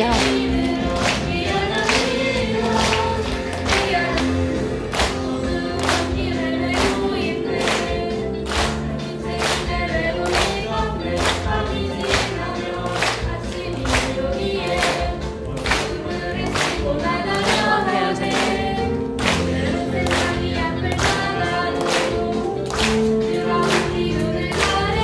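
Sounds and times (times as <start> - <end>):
young singers singing in chorus: 0.0 - 25.0.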